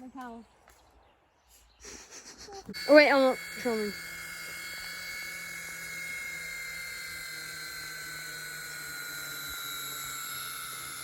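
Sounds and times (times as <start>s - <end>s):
toy helicopter motors whining: 1.8s - 11.0s.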